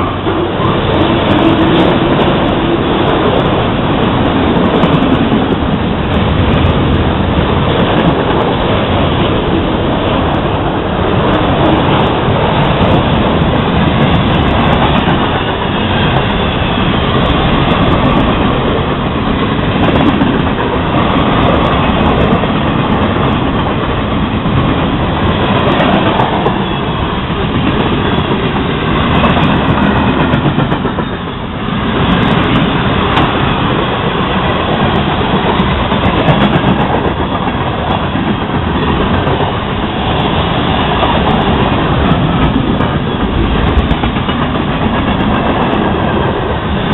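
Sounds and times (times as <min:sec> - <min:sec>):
freight train rumbling past: 0:00.0 - 0:46.9
steel wheels clacking on rail joints: 0:00.0 - 0:46.9.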